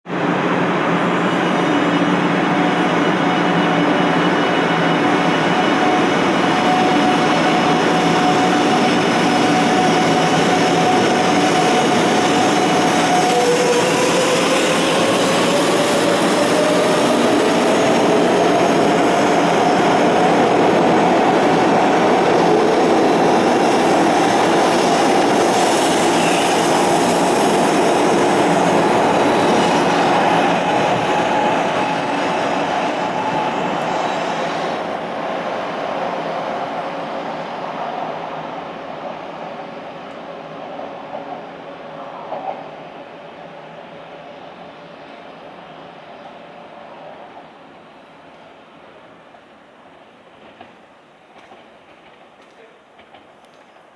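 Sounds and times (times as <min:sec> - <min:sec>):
train running noise: 0:00.1 - 0:53.9.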